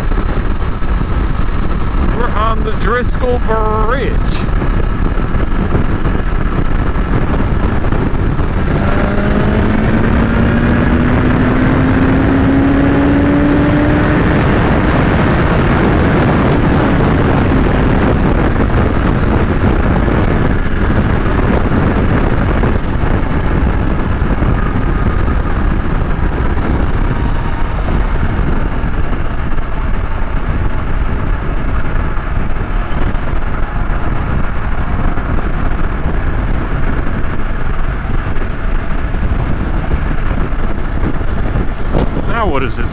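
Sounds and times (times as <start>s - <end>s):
motorcycle engine accelerating: 0.0s - 42.9s
wind and road rush: 0.0s - 42.9s.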